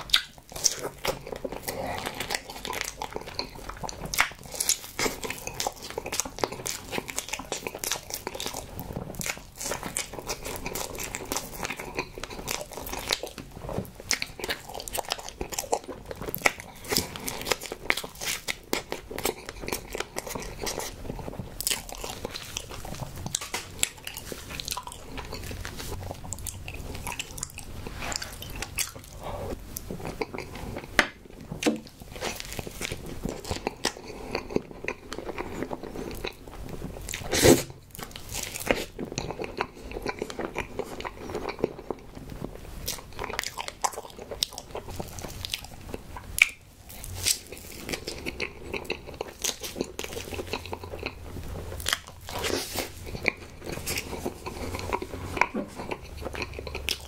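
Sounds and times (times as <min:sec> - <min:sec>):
person biting and chewing: 0:00.0 - 0:42.1, 0:42.8 - 0:57.0.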